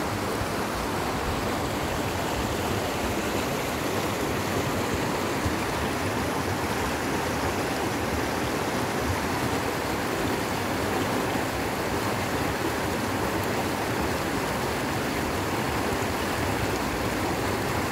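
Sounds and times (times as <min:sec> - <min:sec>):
stream rushing over rocks: 0:00.0 - 0:17.9.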